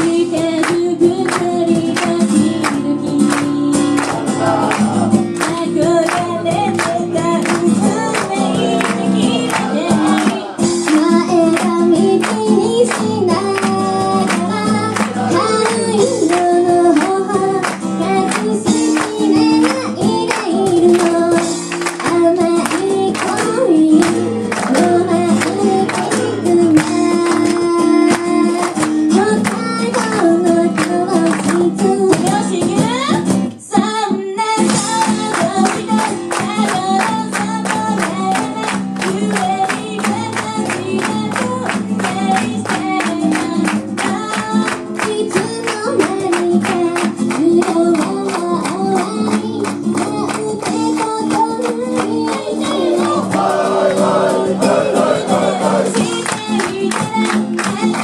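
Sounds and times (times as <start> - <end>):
acoustic guitar: 0.0 - 58.0
women singing: 0.0 - 58.0.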